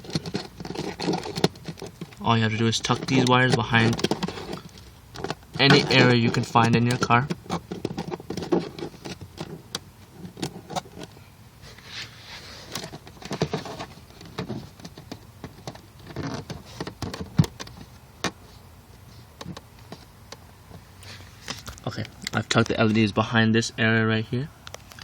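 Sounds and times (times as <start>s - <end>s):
rustling scrapes: 0.0s - 22.0s.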